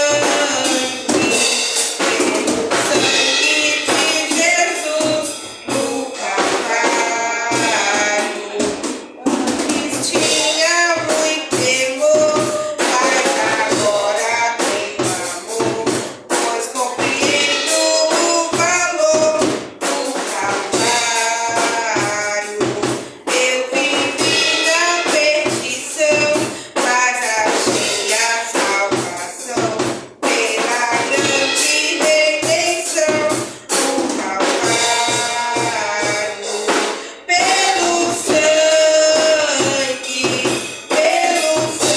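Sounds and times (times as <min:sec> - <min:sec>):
voices singing over a band: 0:00.0 - 0:41.9.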